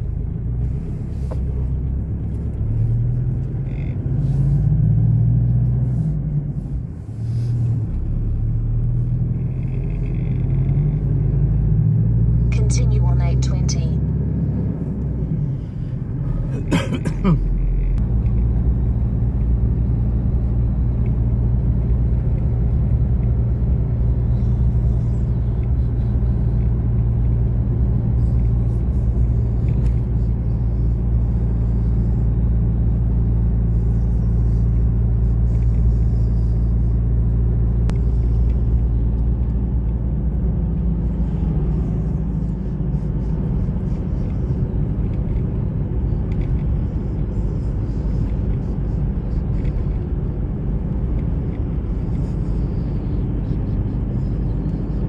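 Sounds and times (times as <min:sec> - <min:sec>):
car engine and tyre hum: 0:00.0 - 0:55.0.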